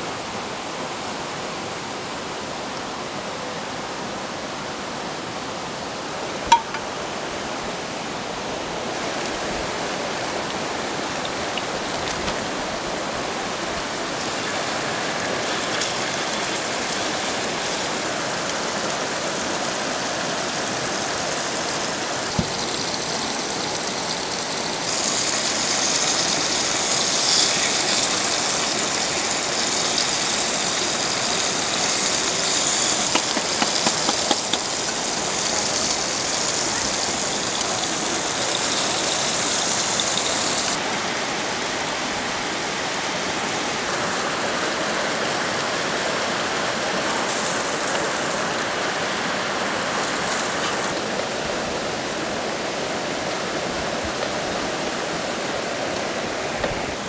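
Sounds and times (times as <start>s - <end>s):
heavy rain: 0.0s - 57.0s
rushing water: 0.0s - 57.0s.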